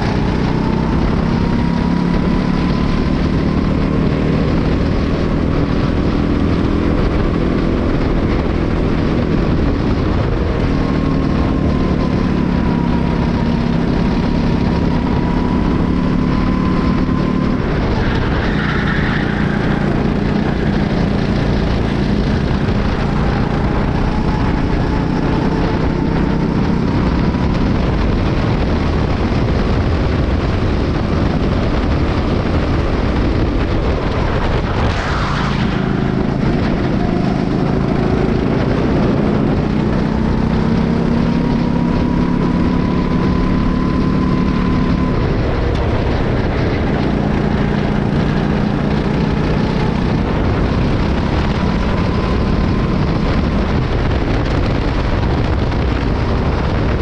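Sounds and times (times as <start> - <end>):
kart engine running hard: 0.0 - 57.0
rumble of wind and chassis: 0.0 - 57.0.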